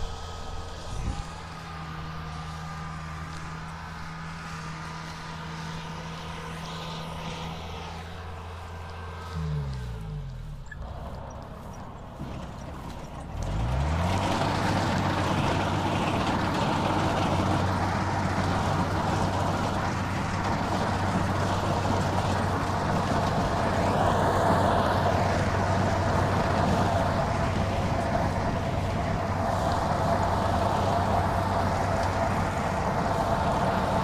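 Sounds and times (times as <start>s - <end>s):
combine harvester engine running: 0.0s - 34.0s.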